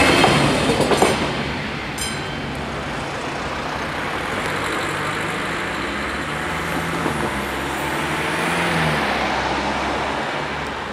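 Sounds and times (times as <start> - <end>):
cars passing: 0.0 - 10.9.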